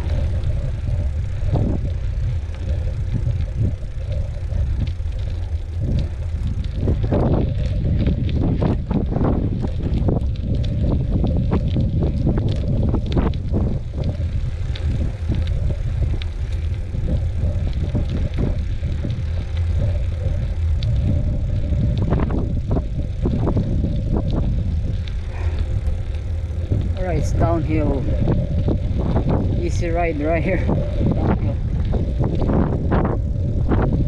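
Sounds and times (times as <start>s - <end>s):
bike clicks and rattles: 0.0s - 34.0s
wind buffeting microphone: 0.0s - 34.0s.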